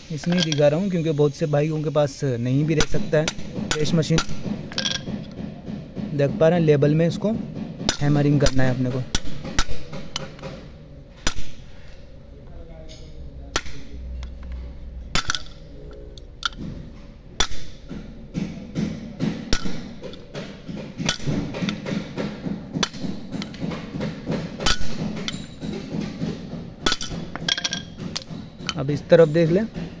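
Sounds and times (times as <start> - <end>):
hammer tapping metal: 0.0 - 11.9, 12.8 - 30.0.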